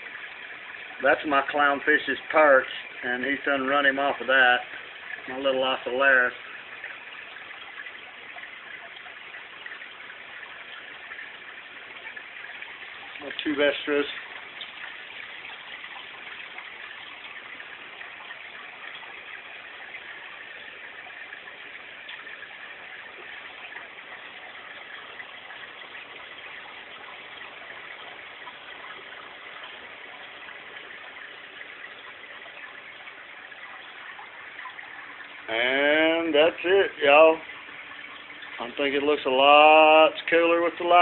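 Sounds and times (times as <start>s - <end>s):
aquarium water rushing: 0.0s - 41.0s.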